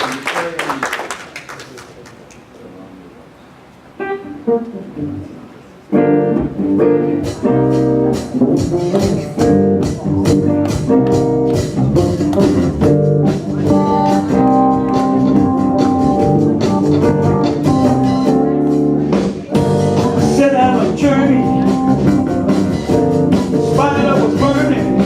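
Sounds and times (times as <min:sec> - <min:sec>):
guitar chords: 0:03.9 - 0:25.0
live band playing: 0:03.9 - 0:25.0.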